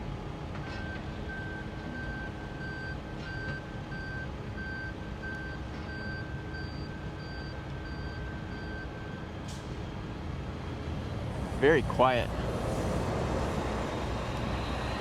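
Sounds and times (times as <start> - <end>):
low rumble of traffic and trains: 0.0 - 15.0.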